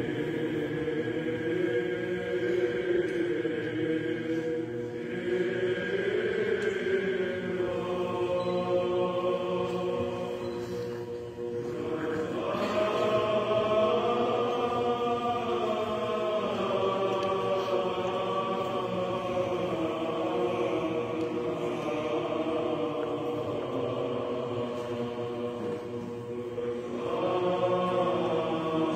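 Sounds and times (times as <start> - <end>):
choir chanting: 0.0 - 28.9.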